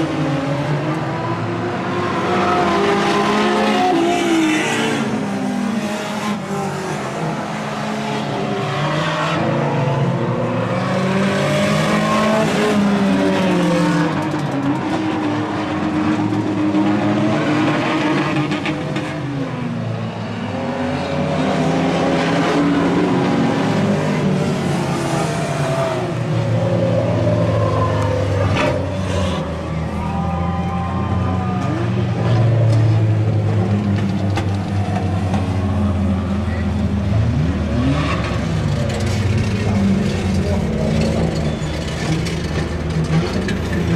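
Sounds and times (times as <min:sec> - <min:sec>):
racing car engines revving: 0:00.0 - 0:43.9.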